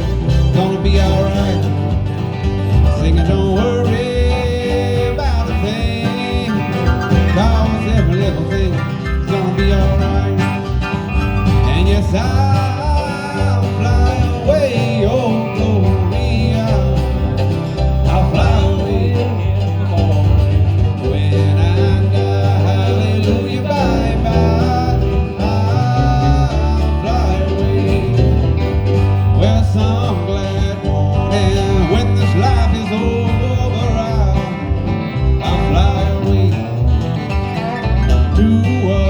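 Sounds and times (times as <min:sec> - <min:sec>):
bass line: 0:00.0 - 0:39.0
guitar and plucked strings: 0:00.0 - 0:39.0
instrumental bluegrass music: 0:00.0 - 0:39.0.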